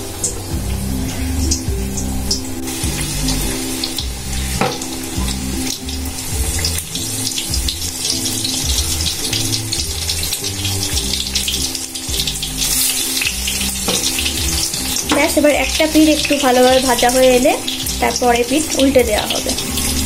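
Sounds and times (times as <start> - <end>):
background music: 0.0 - 20.0
food sizzling in hot oil: 0.0 - 20.0.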